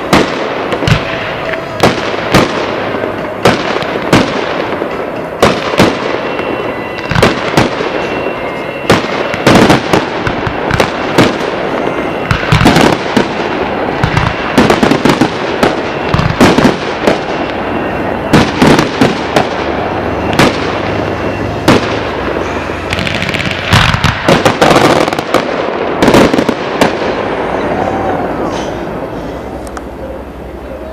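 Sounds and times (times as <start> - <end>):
fireworks bursting: 0.0 - 30.9
fireworks crackle: 0.0 - 30.9.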